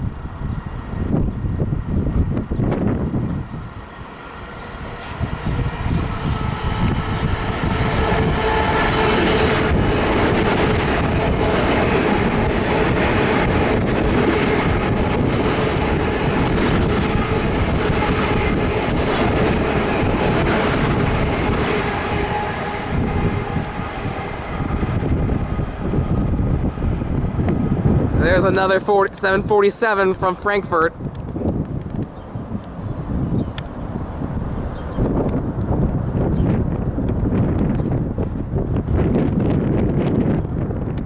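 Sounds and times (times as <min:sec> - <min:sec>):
train wheels rumbling on rail: 0:00.0 - 0:29.2, 0:29.8 - 0:41.0.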